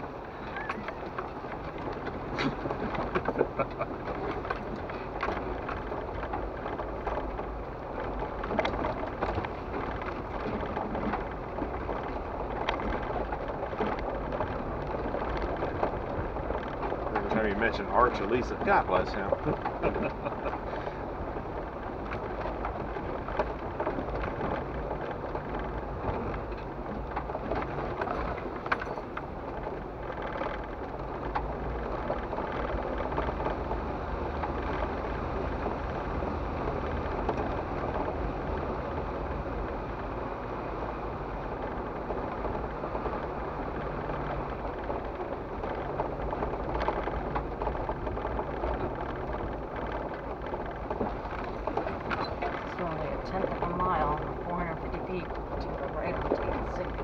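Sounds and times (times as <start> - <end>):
knocks and rattles over bumps: 0.0 - 57.0
tyre and road noise: 0.0 - 57.0
vehicle engine hum: 0.0 - 57.0.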